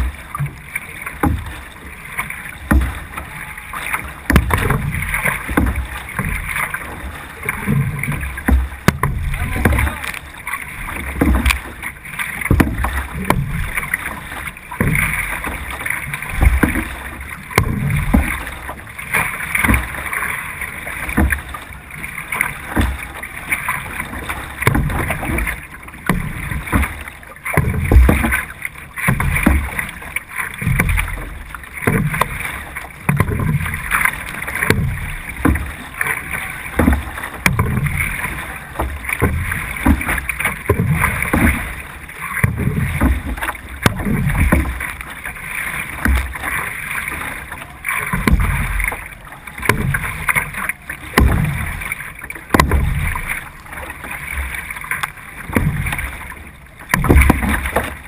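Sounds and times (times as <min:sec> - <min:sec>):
paddle splashing water: 0:00.0 - 0:58.0
water rushing along hull: 0:00.0 - 0:58.0.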